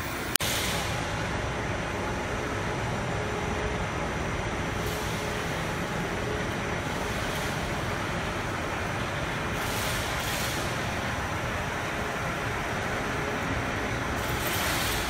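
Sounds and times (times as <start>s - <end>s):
machinery running with hum: 0.0s - 15.0s.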